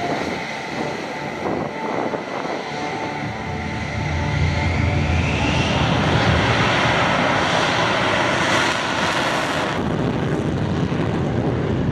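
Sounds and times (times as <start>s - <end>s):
jet engines roaring: 0.0s - 11.9s.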